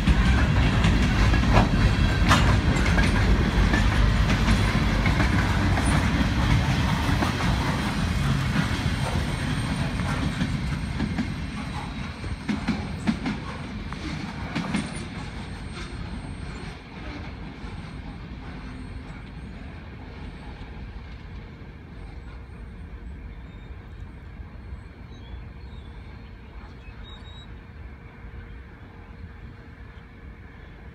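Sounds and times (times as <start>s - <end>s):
train wheels rumbling over rails: 0.0s - 30.9s.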